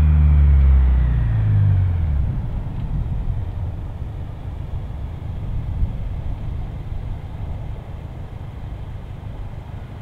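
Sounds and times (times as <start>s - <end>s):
low car rumble: 0.0s - 10.0s.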